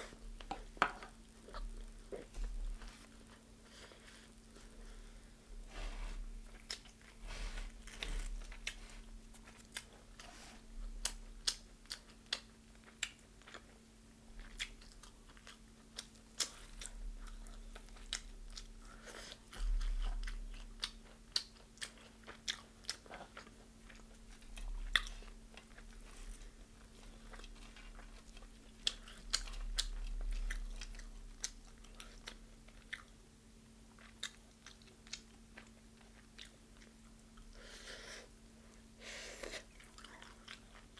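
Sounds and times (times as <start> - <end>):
faint steady hum: 0.0 - 40.9
chewing crunchy fried chicken: 6.4 - 40.9.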